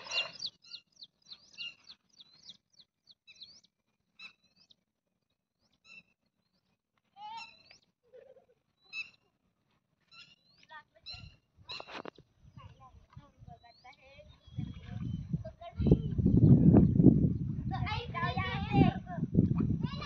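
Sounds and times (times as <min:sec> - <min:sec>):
birds chirping: 0:00.0 - 0:09.4, 0:10.0 - 0:18.6.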